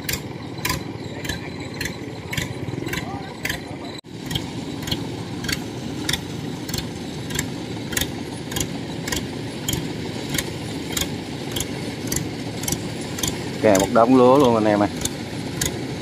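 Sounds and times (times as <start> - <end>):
regular mechanical clack: 0.0 - 15.8
combine harvester engine drone: 0.0 - 16.0.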